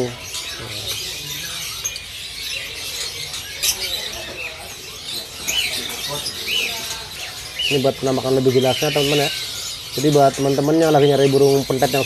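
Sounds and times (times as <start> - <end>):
faint voices: 0.0 - 12.0
songbirds chirping: 0.0 - 12.0.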